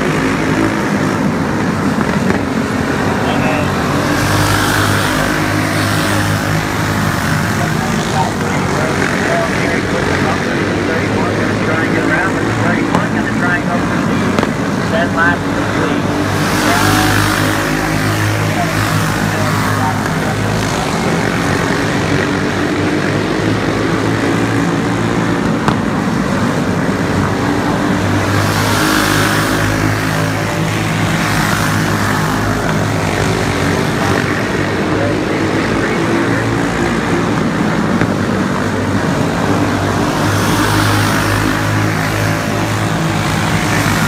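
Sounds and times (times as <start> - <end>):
racing kart engines: 0.0 - 44.0.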